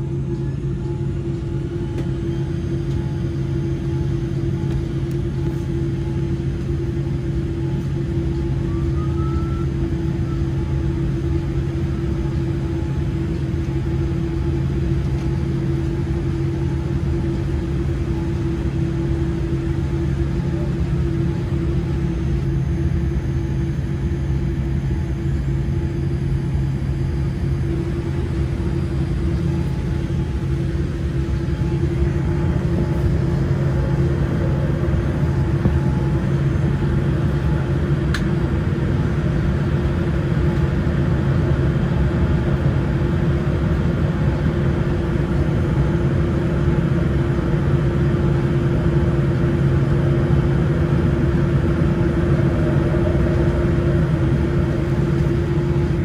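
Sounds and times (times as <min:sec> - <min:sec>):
low hum: 0:00.0 - 0:43.4, 0:49.6 - 0:56.0.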